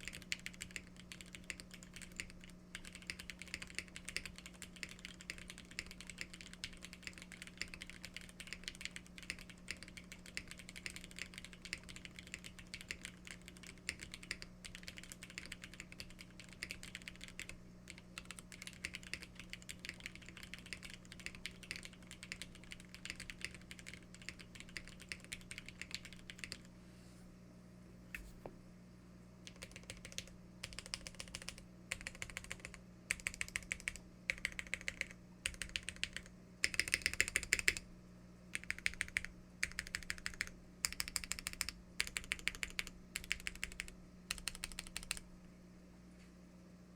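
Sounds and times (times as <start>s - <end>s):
typing on mechanical keyboard: 0.0s - 26.7s, 29.5s - 37.8s, 38.5s - 45.2s
steady low hum: 0.0s - 46.9s.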